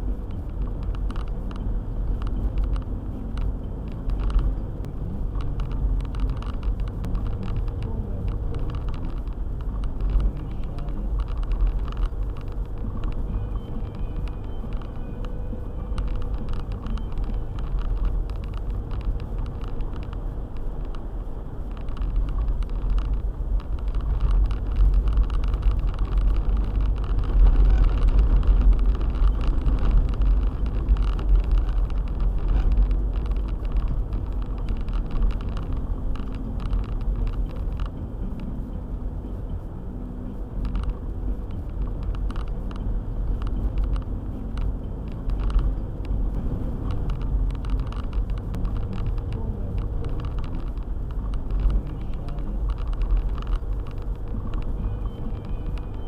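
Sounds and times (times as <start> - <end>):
car engine and road rumble: 0.0 - 56.0
light ticks: 0.0 - 56.0.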